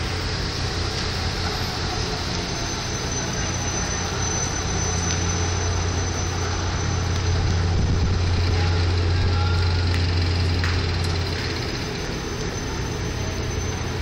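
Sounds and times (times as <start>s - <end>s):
helicopter rotor and turbine drone: 0.0s - 14.0s.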